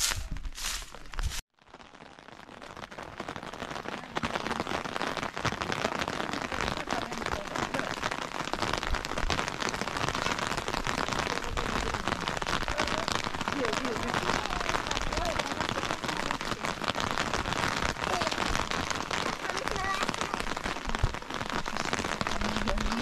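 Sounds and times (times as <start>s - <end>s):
rain on a hard surface: 1.6s - 23.0s.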